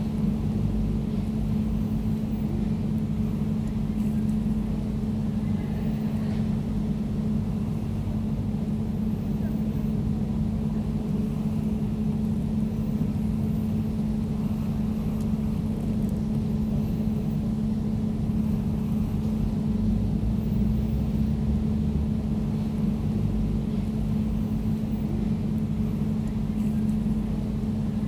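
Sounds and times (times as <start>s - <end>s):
air conditioner running: 0.0s - 28.0s.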